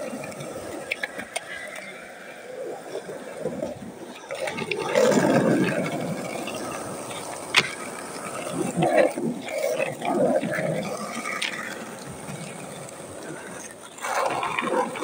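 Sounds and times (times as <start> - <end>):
skateboard clack: 0.0 - 2.3, 4.1 - 15.0
skateboard wheels rolling on asphalt: 0.0 - 15.0.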